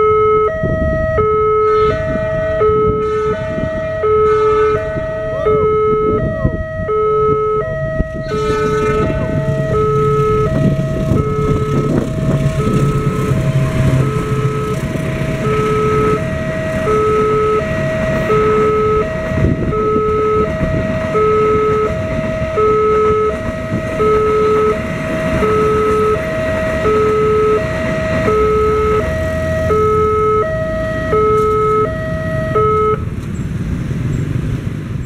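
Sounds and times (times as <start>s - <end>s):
level crossing electronic alarm: 0.0s - 33.1s
passing train rumble: 0.0s - 35.0s.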